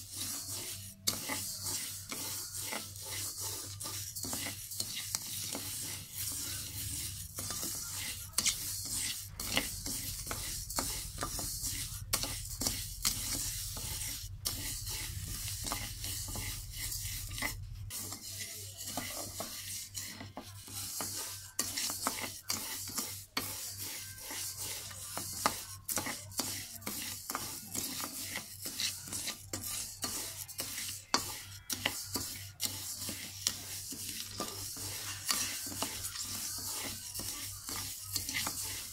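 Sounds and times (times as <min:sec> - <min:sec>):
rice grains sliding in metal wok: 0:00.0 - 0:38.9
spatula scraping wok: 0:00.0 - 0:38.9.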